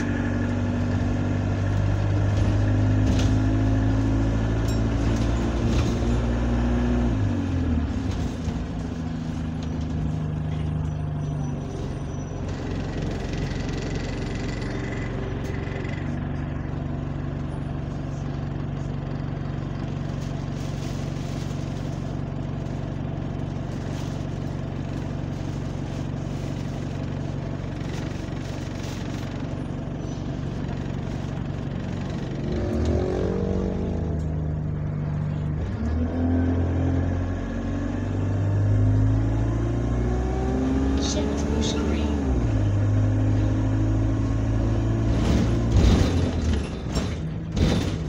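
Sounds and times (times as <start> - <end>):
bus engine running: 0.0 - 48.0.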